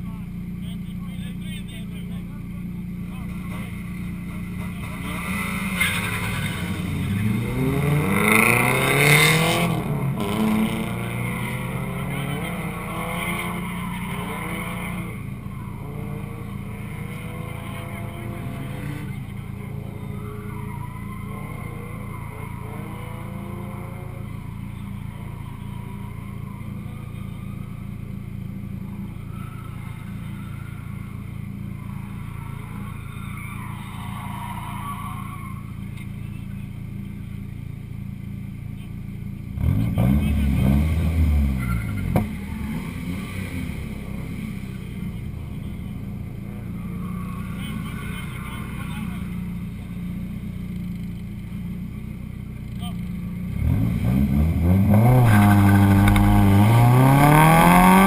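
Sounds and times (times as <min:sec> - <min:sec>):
car engine idling: 0:00.0 - 0:58.0
distant engines revving: 0:00.0 - 0:58.0
car accelerating hard: 0:03.0 - 0:36.4, 0:39.5 - 0:51.6, 0:53.4 - 0:58.0.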